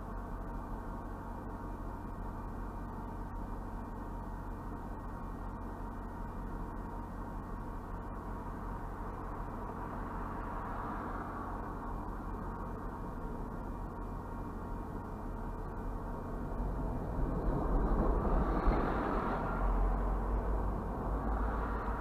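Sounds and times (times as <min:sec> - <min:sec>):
muffled engine hum: 0:00.0 - 0:22.0.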